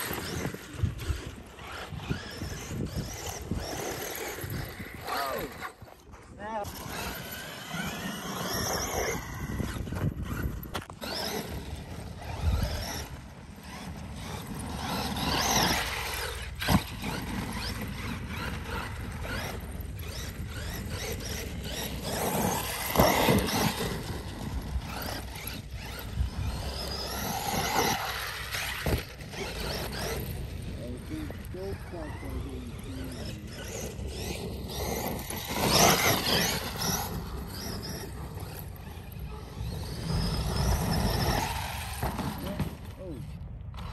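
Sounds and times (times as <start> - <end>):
toy truck electric motor whining: 0.0 - 43.9.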